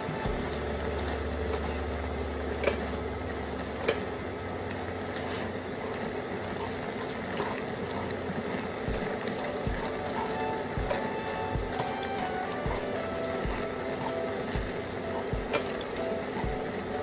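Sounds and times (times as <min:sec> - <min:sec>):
low hum: 0:00.0 - 0:05.2, 0:07.9 - 0:17.0.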